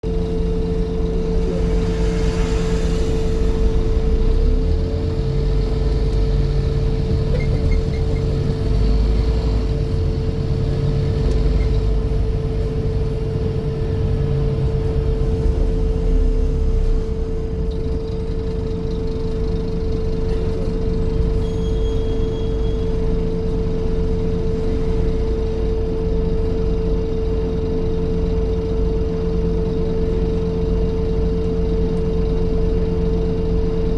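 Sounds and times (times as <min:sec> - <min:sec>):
bus engine running: 0:00.0 - 0:33.9.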